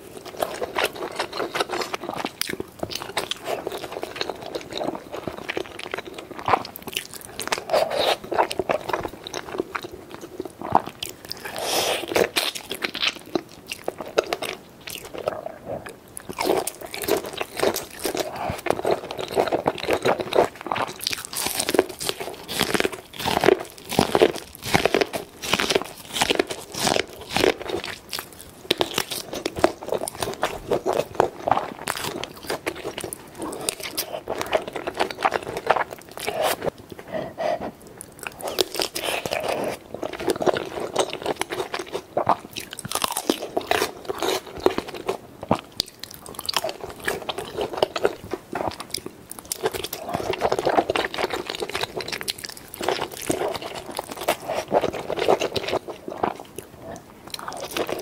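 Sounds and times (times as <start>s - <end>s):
crunchy bites and chewing: 0.0s - 36.8s, 38.0s - 58.0s.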